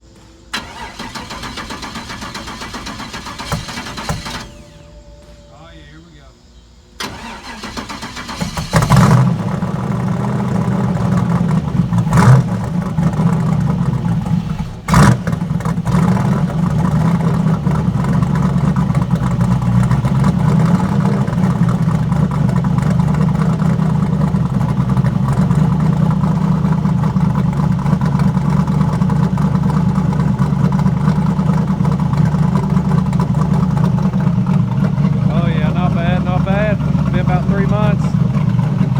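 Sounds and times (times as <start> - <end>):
car engine revving and idling: 0.5 - 38.9.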